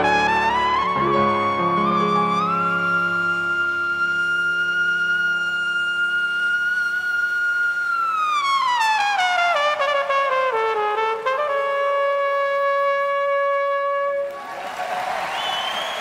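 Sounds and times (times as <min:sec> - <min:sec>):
flugelhorn solo: 0:00.0 - 0:14.4.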